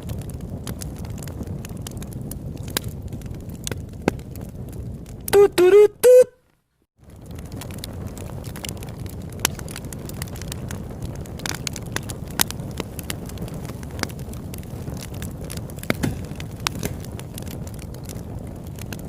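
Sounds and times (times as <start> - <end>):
campfire crackling and popping: 0.0 - 6.2, 6.9 - 19.0.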